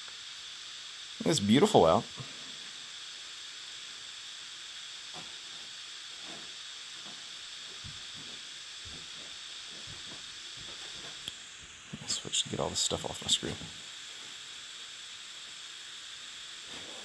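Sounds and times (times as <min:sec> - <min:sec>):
recording hiss: 0:00.0 - 0:17.0.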